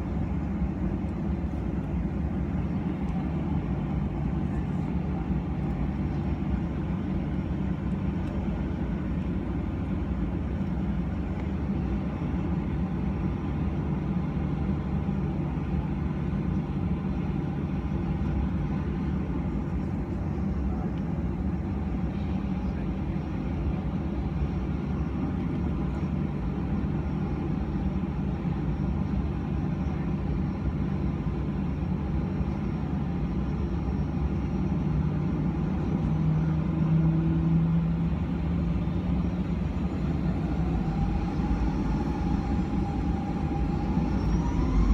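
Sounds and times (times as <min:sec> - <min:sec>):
airplane cabin rumble and hum: 0:00.0 - 0:44.9.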